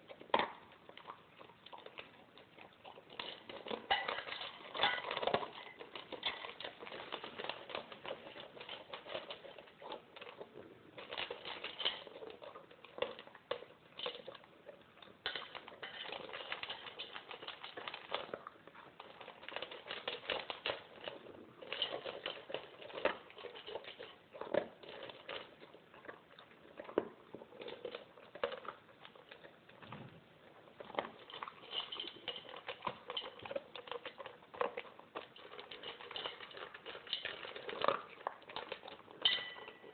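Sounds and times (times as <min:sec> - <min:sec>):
dog crunching kibble: 0:00.0 - 0:39.9
kibble rattling in metal bowl: 0:00.0 - 0:39.9.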